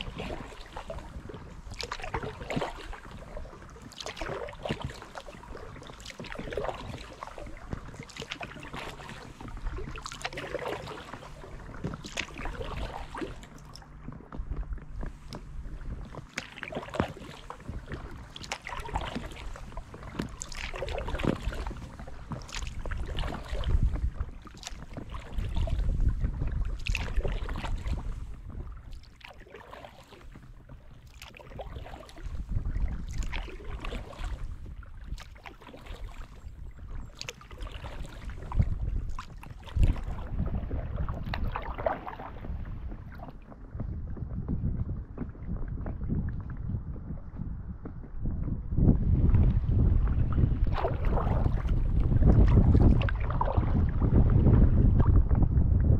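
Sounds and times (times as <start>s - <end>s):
kayak paddle splashing and dripping: 0.0s - 47.6s, 48.9s - 55.9s
wind rumble on microphone: 0.0s - 55.9s.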